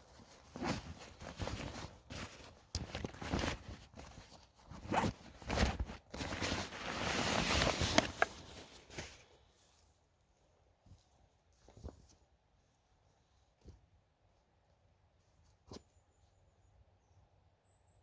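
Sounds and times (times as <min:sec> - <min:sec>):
rustling handling noises: 0:00.0 - 0:16.6.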